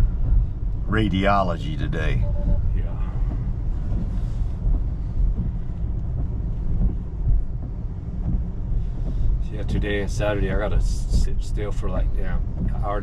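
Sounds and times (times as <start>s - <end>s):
tyre and road noise in car: 0.0s - 13.0s.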